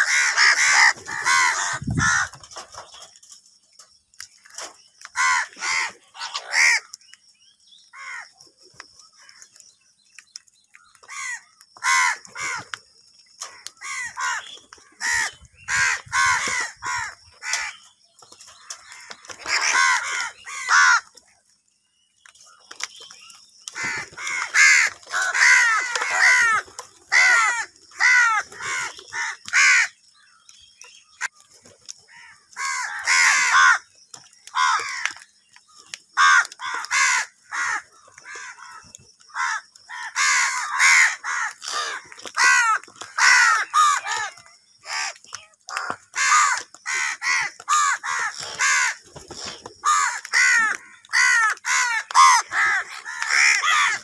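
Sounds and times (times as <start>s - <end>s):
crows cawing: 0.0s - 3.1s, 4.5s - 7.0s, 7.9s - 8.4s, 10.8s - 21.2s, 23.6s - 54.0s.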